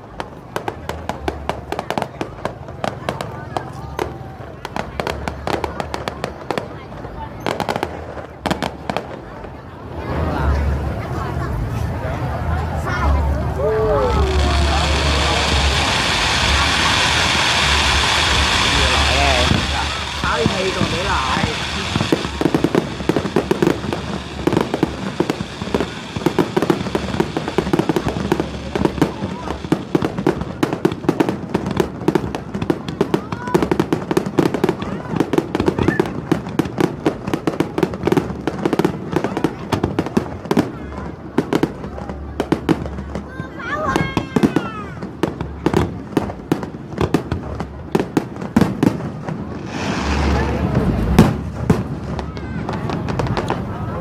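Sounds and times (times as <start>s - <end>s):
fireworks bangs: 0.0s - 10.8s, 13.4s - 54.0s.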